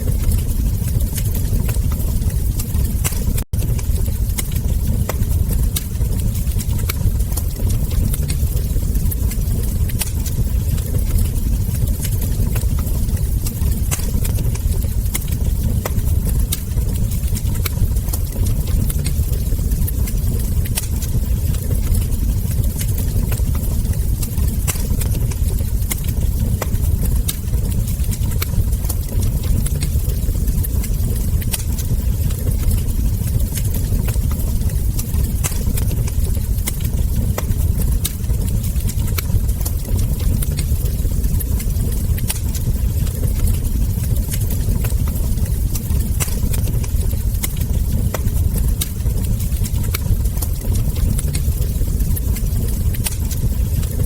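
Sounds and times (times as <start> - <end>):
fire crackling and ember pops: 0.0 - 54.0
low rumble of fire: 0.0 - 54.0.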